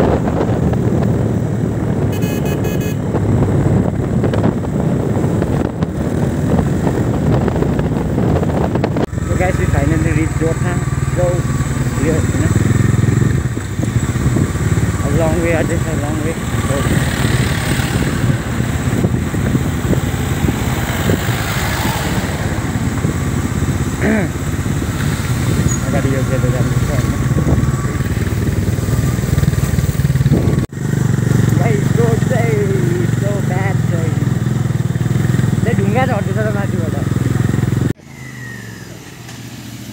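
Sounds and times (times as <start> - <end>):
wind buffeting microphone: 0.0 - 2.2, 3.0 - 38.0
vehicle low rumble: 0.0 - 39.9.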